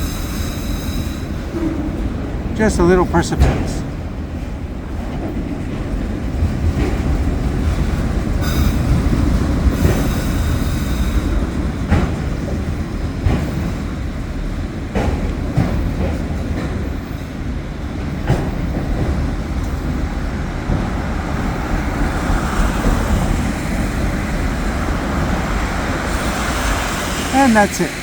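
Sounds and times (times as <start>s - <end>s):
train wheels rumbling on rails: 0.0s - 28.0s
clacks over rail joints: 3.3s - 26.8s.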